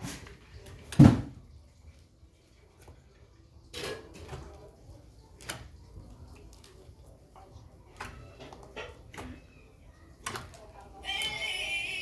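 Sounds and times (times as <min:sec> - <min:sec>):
objects being handled: 0:00.0 - 0:11.8.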